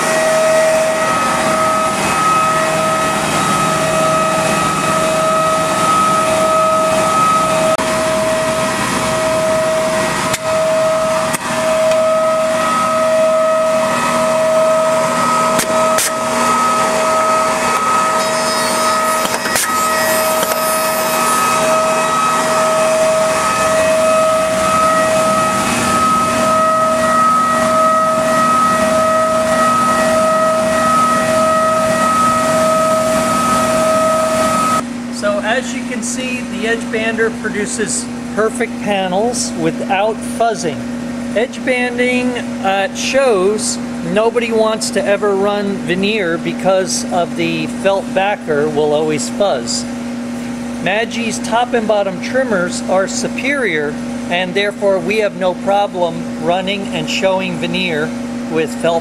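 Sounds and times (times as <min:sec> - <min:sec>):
machine whine pulsing: 0:00.0 - 0:59.0.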